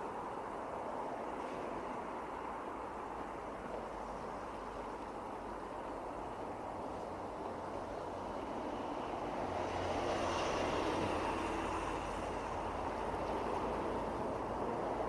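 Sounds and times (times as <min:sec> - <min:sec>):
bus passing close: 0:00.0 - 0:15.0
road traffic passing: 0:00.0 - 0:15.0.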